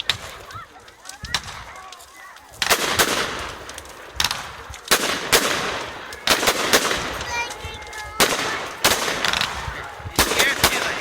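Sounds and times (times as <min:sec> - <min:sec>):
crackling firework bangs: 0:00.0 - 0:11.0
fireworks bangs: 0:00.0 - 0:11.0.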